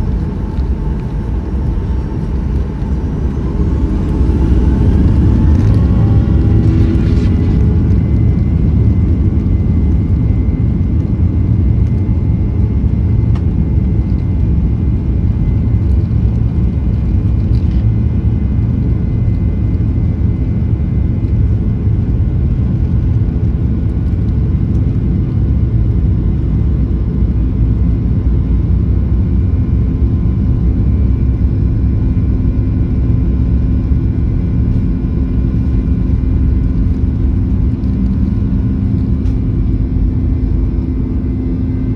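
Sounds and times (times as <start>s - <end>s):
airplane engines rumbling: 0.0s - 41.9s
faint engine tones: 0.0s - 41.9s.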